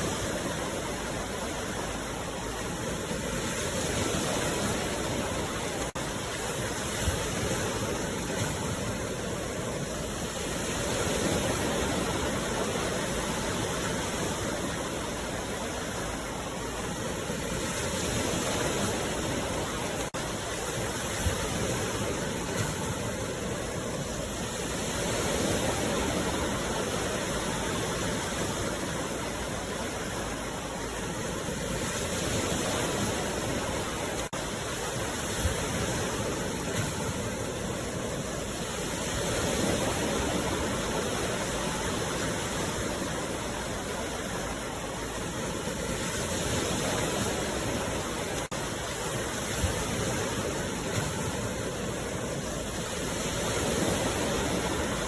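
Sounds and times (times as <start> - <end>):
sea waves washing ashore: 0.0 - 55.0.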